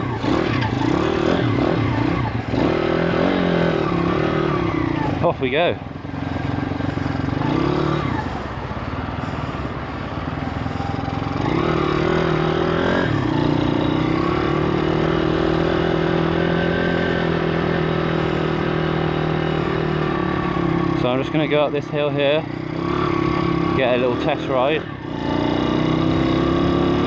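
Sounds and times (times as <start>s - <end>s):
motorbike engine riding along: 0.0s - 27.0s.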